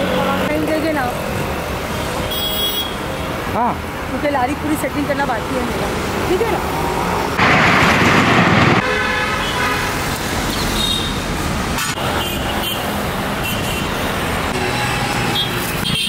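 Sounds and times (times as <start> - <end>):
scooters and cars passing: 0.0 - 16.0.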